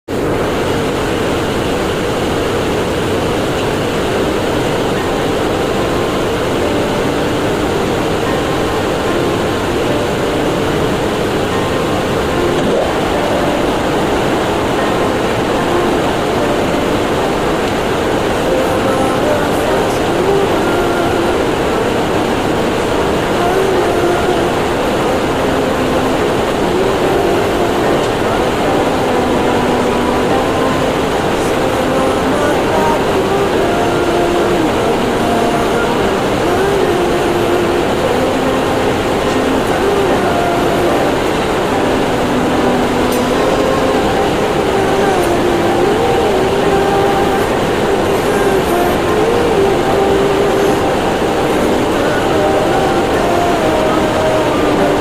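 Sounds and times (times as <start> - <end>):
machinery droning: 0.1 - 55.0.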